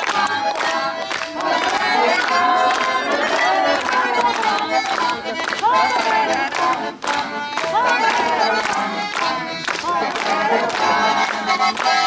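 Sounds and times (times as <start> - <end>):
instrumental song music: 0.0 - 12.0.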